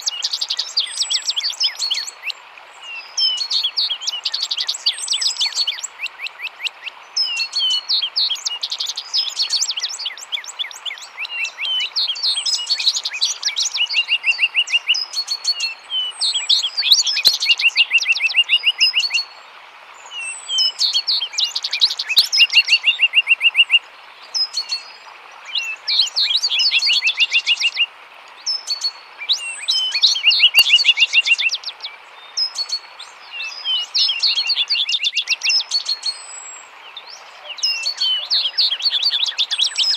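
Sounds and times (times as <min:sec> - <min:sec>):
running water: 0:00.0 - 0:39.9
songbirds singing: 0:00.0 - 0:39.9.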